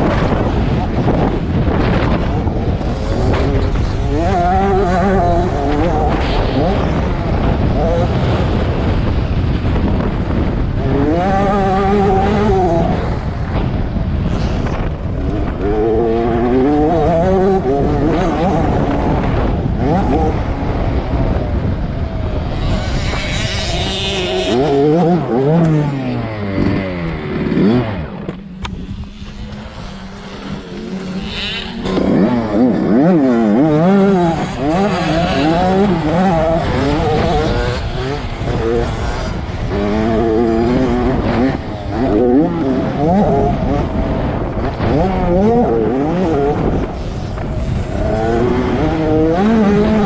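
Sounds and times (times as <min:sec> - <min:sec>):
low wind rumble: 0:00.0 - 0:50.0
motorbike engine revving: 0:00.0 - 0:50.0.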